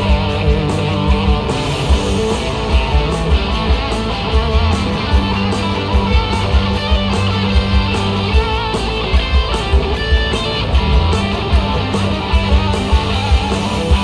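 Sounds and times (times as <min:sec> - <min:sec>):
bass: 0:00.0 - 0:14.0
drum beat: 0:00.0 - 0:14.0
electric guitar lead: 0:00.0 - 0:14.0.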